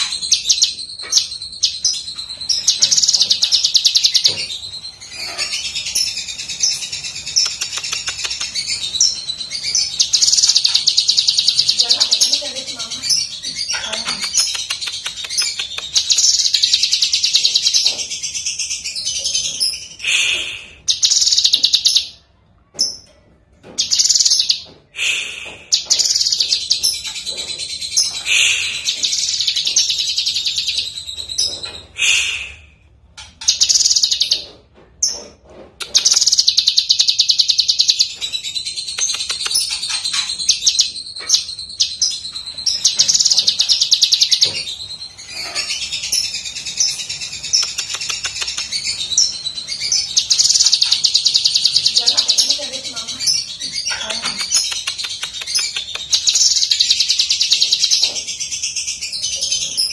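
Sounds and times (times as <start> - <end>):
bird singing rapid chattering song: 0.0 - 22.2, 22.8 - 32.5, 33.1 - 59.9.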